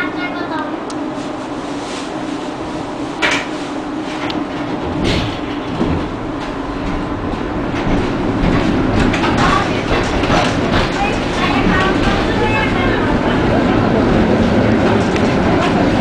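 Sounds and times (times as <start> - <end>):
tram wheels rumbling on rail: 0.0 - 16.0.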